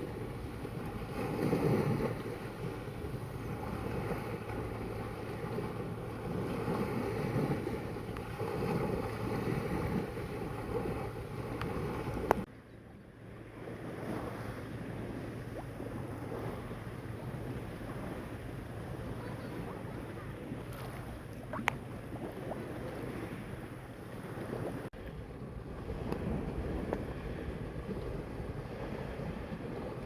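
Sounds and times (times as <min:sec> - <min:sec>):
sea waves washing: 0:00.0 - 0:12.5, 0:13.5 - 0:30.0
wind buffeting microphone: 0:00.0 - 0:12.5, 0:13.5 - 0:30.0.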